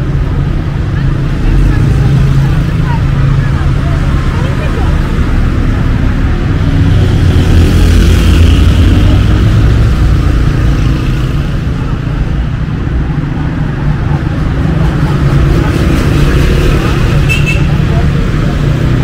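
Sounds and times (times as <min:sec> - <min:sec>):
cars and motorbikes passing: 0:00.0 - 0:19.0.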